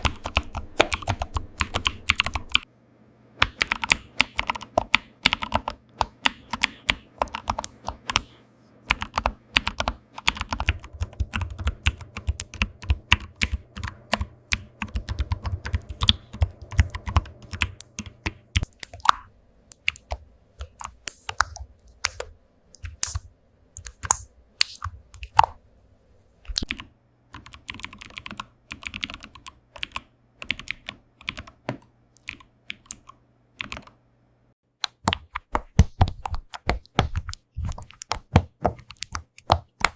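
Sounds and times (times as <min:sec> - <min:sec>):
keyboard typing: 0:00.0 - 0:02.7, 0:03.4 - 0:25.6, 0:26.5 - 0:34.1, 0:34.8 - 0:39.9
low steady hum: 0:00.0 - 0:34.6.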